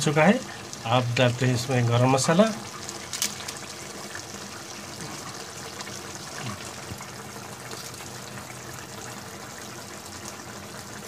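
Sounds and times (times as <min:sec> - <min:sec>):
gravy bubbling at a simmer: 0:00.0 - 0:11.0.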